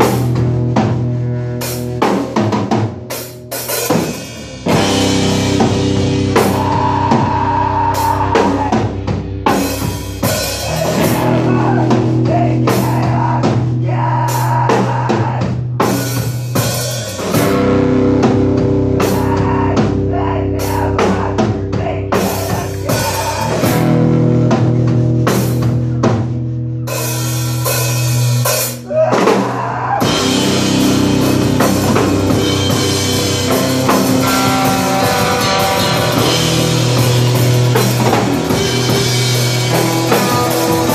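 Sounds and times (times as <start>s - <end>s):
drum kit hit hard: 0.0s - 40.9s
rock band playing live: 0.0s - 40.9s.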